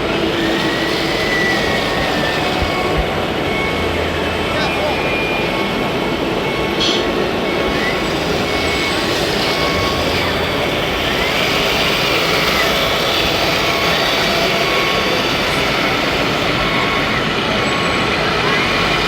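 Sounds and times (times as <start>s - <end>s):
din of busy hall: 0.0s - 19.0s
small electric motors whining: 0.0s - 19.0s.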